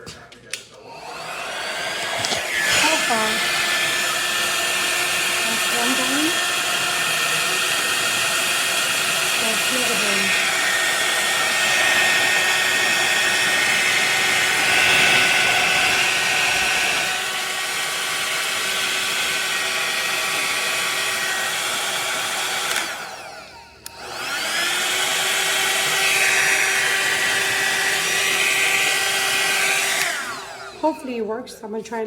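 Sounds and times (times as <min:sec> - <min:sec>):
hot air styler running: 0:00.9 - 0:31.1.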